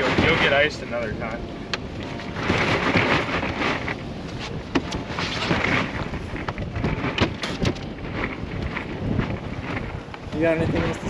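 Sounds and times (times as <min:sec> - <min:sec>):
water washing against boat hull: 0:00.0 - 0:11.0
wind buffeting microphone: 0:00.0 - 0:11.0.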